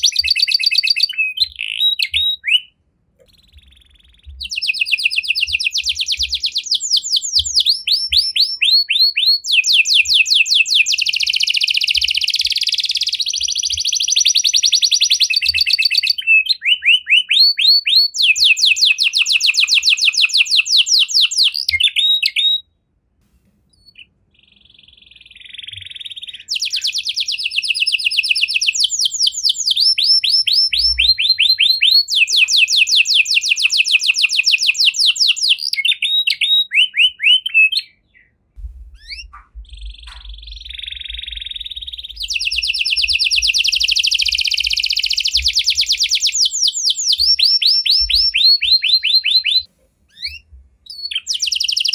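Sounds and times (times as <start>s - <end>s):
canary singing: 0.0s - 22.7s, 23.7s - 51.9s.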